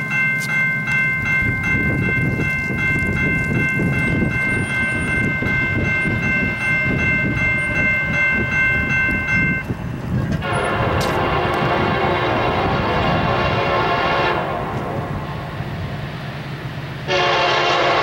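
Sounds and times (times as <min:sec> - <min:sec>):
crossing bell dinging: 0:00.0 - 0:18.0.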